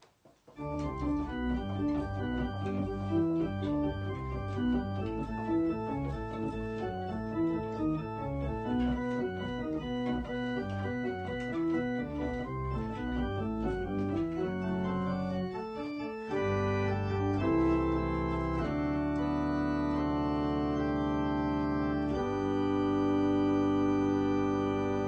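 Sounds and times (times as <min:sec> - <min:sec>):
electronic organ playing chords: 0:00.6 - 0:25.0.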